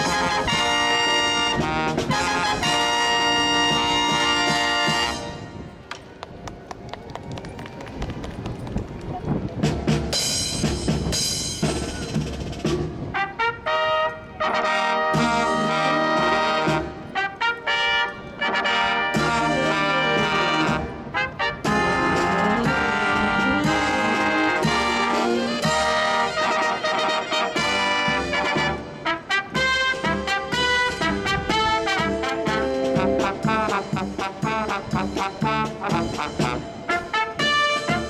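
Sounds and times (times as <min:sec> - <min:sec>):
marching brass band playing: 0:00.0 - 0:05.9, 0:09.6 - 0:38.0.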